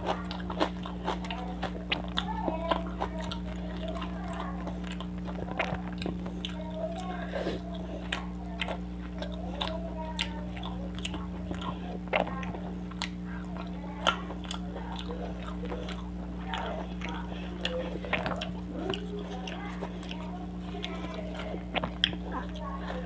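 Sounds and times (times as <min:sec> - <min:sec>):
wet chewing and smacking: 0:00.0 - 0:23.0.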